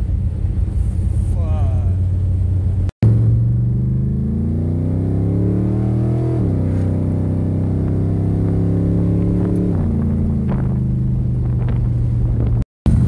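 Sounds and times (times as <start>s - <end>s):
engine accelerating and shifting: 0.0s - 13.0s.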